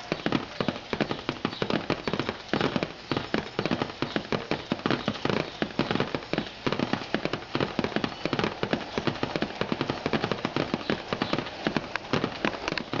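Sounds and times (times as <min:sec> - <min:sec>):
rain on a hard surface: 0:00.0 - 0:13.0.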